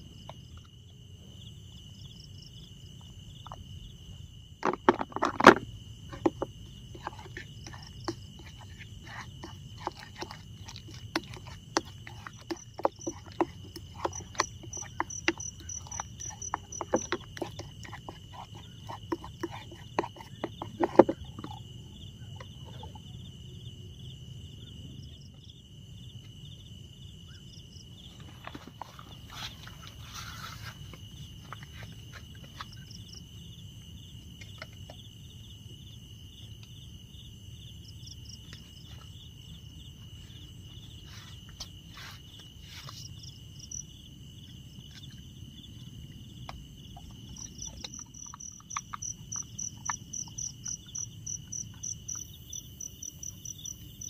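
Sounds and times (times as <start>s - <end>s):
crickets trilling: 0.0s - 54.0s
pulsing high insect chirp: 5.6s - 20.6s, 21.2s - 54.0s.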